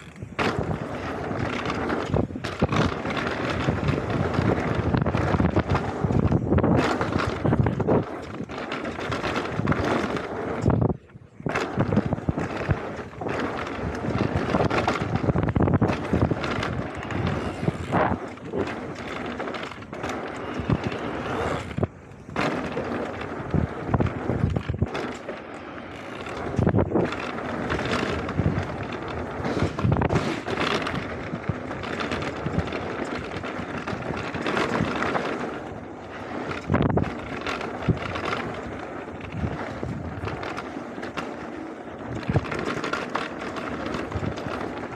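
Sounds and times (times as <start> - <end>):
bike rattling and knocking: 0.0 - 44.9
bike tyres crunching over stones: 0.0 - 44.9
wind buffeting microphone: 0.0 - 44.9.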